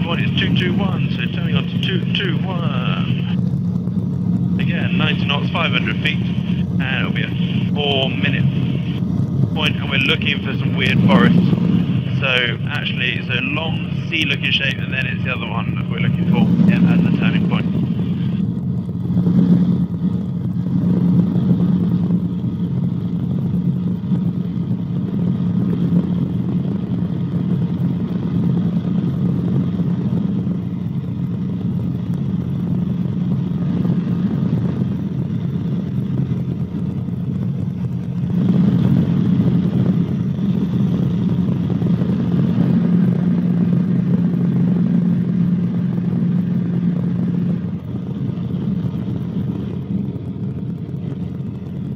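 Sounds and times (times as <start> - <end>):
helicopter engine and rotor drone: 0.0 - 51.9.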